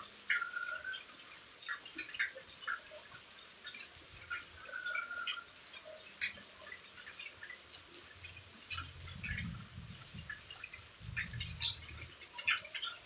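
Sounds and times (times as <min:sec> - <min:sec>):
raindrops dripping and ticking: 0:00.0 - 0:13.0.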